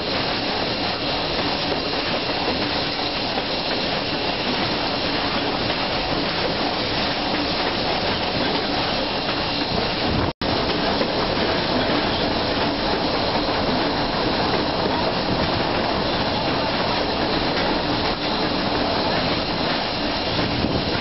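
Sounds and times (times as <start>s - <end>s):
rolling rail noise: 0.0s - 21.0s
steam hiss: 0.0s - 21.0s.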